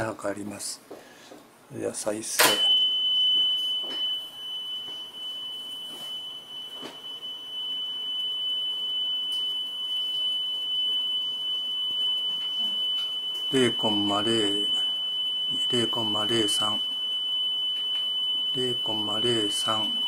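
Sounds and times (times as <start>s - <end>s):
steady test tone from tape: 2.4s - 20.0s.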